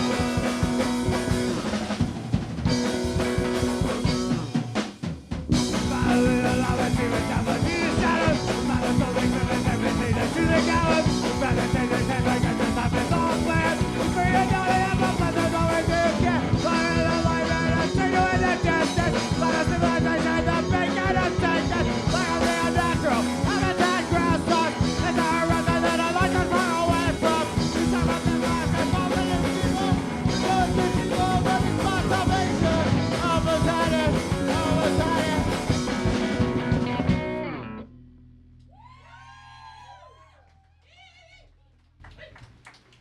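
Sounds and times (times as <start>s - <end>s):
live band playing a song: 0.0s - 37.6s.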